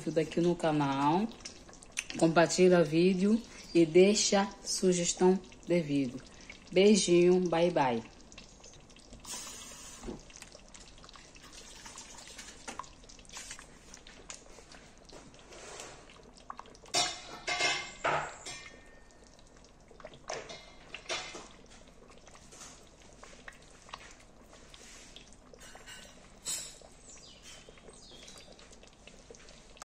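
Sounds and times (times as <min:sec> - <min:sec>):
stew simmering with bubbling pops: 0:00.0 - 0:29.9.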